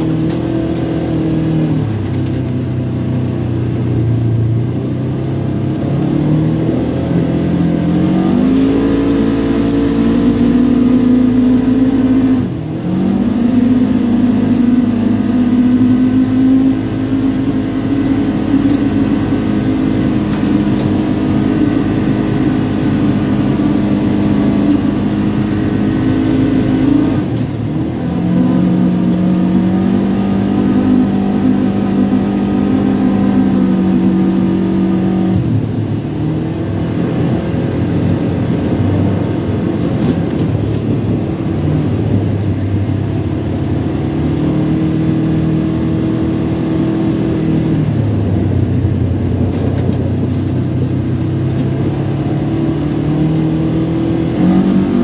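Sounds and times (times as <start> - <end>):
engine revving: 0.0 - 55.0.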